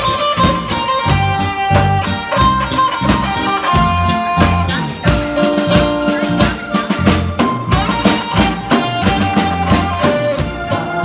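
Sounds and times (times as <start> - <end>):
live band playing upbeat song: 0.0 - 11.0.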